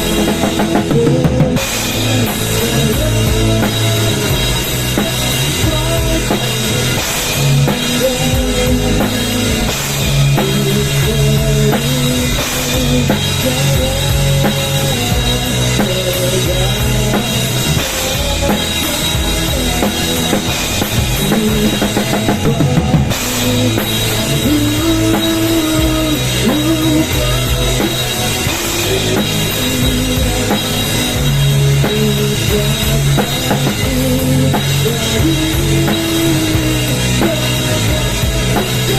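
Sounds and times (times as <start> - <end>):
rock music over loudspeakers: 0.0 - 38.9.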